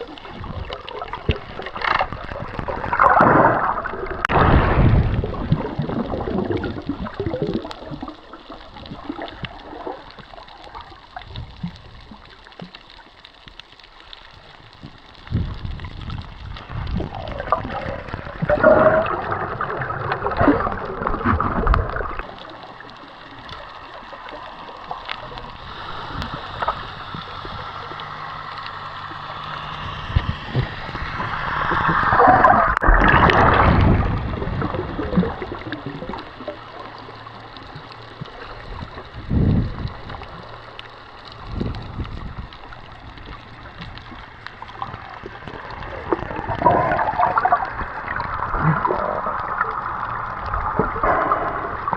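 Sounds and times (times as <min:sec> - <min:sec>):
water gurgling and splashing: 0:00.0 - 0:51.9.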